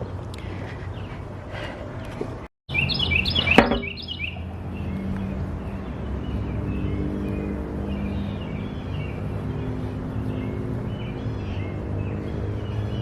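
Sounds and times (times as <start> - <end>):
bird chirping: 0.7 - 13.0.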